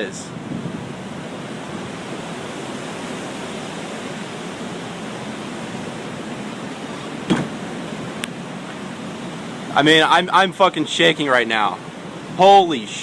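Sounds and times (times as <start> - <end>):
roaring tornado wind: 0.0 - 13.0.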